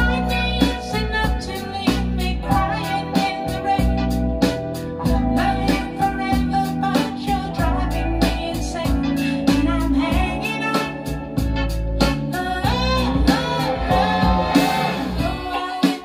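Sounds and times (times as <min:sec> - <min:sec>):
guitar song over loudspeakers: 0:00.0 - 0:16.0.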